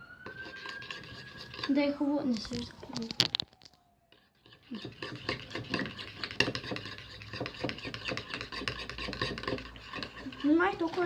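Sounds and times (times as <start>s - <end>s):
spoon scraping a bowl: 0.2s - 2.6s, 4.1s - 11.0s.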